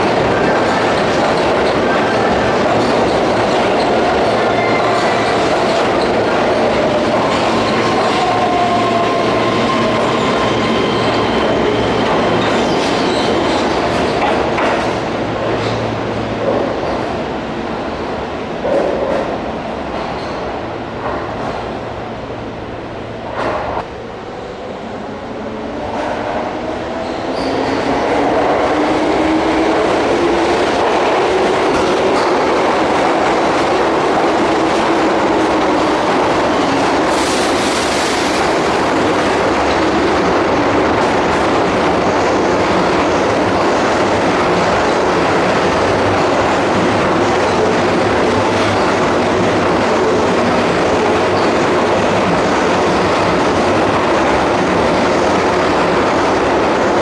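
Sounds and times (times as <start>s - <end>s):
train wheels clattering on rail: 0.0s - 17.2s, 18.6s - 21.7s, 27.0s - 57.0s.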